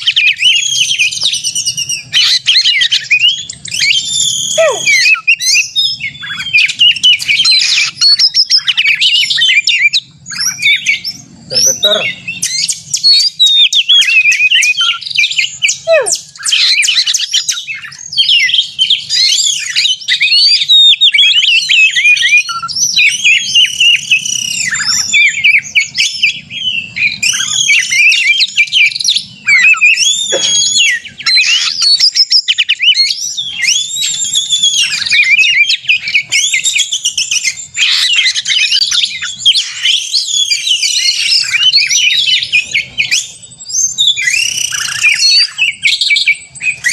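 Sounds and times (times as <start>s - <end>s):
bird singing varied whistles: 0.0s - 46.9s.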